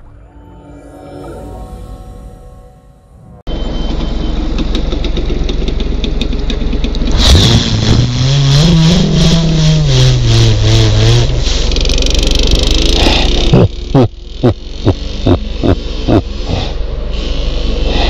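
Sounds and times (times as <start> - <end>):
motorcycle engine idling and revving: 3.5 - 18.0.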